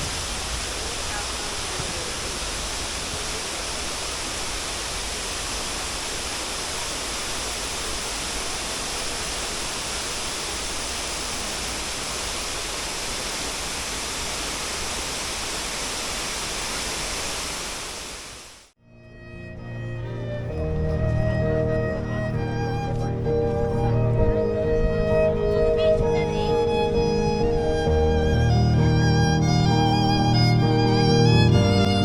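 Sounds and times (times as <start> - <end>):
rushing falling water: 0.0 - 18.8, 20.5 - 32.0.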